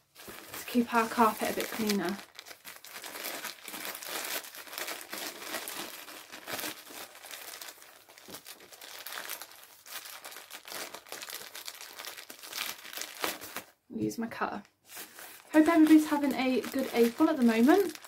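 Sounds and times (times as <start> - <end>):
plastic bag crinkling: 0.0 - 13.8, 14.8 - 18.0.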